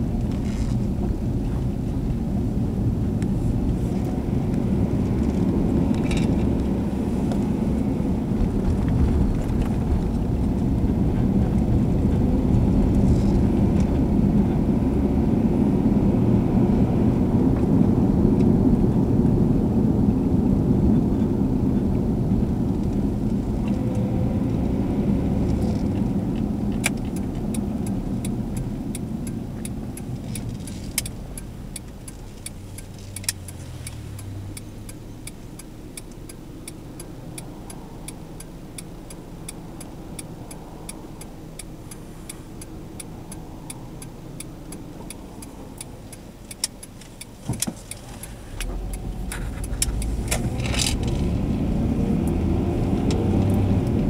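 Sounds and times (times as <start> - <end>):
turn signal clicking: 0.0 - 19.4, 20.2 - 54.0
engine and tyre rumble: 0.0 - 54.0.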